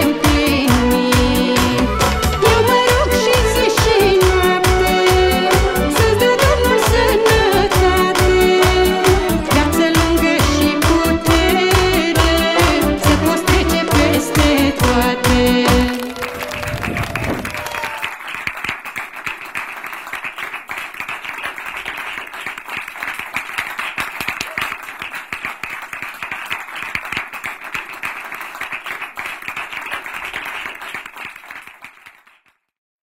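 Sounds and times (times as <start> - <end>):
small group clapping: 0.2 - 32.8.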